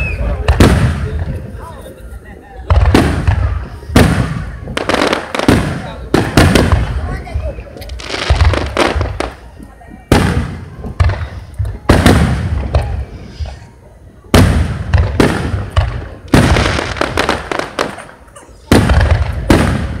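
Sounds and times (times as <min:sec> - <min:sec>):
firework shells booming: 0:00.0 - 0:01.6, 0:02.6 - 0:13.2, 0:14.3 - 0:20.0
firework crackle: 0:02.6 - 0:20.0.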